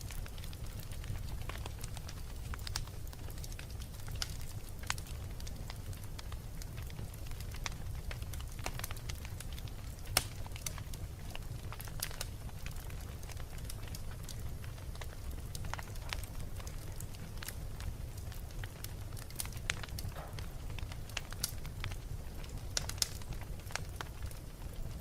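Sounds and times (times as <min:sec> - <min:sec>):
fire rumbling: 0:00.0 - 0:25.0
wood crackling and popping: 0:00.0 - 0:25.0.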